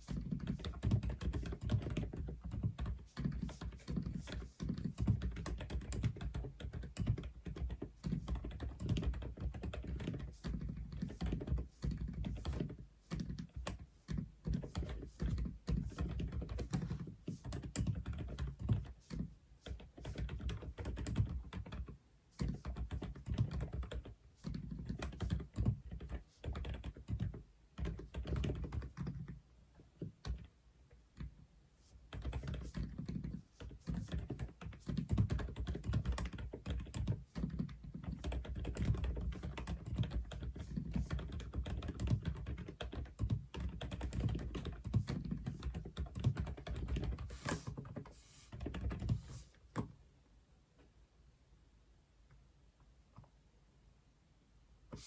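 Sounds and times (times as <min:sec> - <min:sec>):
mechanical keyboard typing: 0:00.1 - 0:29.4, 0:32.1 - 0:49.9.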